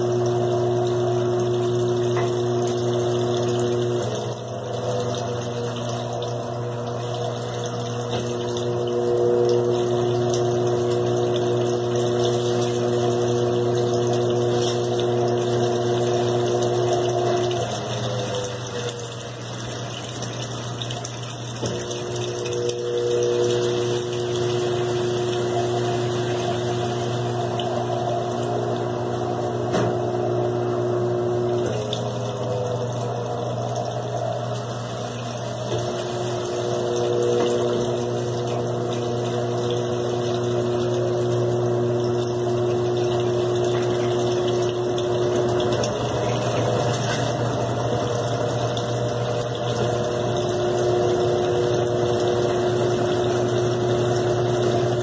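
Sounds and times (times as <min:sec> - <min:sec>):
rushing water: 0:00.0 - 0:55.0
washing machine motor and pump hum: 0:00.0 - 0:55.0.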